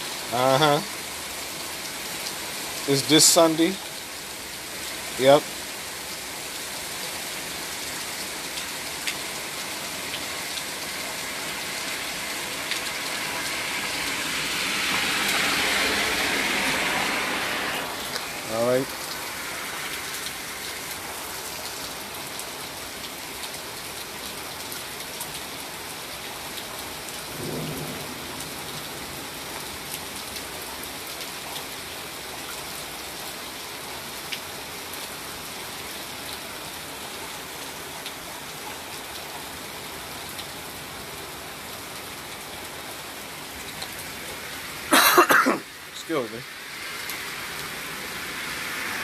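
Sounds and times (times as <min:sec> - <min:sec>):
hard rain hissing: 0:00.0 - 0:49.0.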